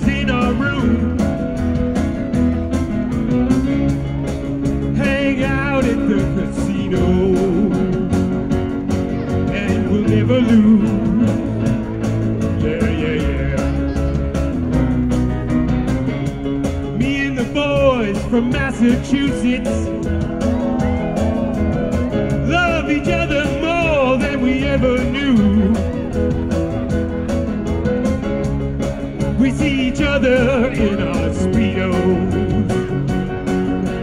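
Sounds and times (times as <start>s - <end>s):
bass guitar: 0.0s - 34.0s
drums: 0.0s - 34.0s
lead guitar bending notes: 0.0s - 34.0s.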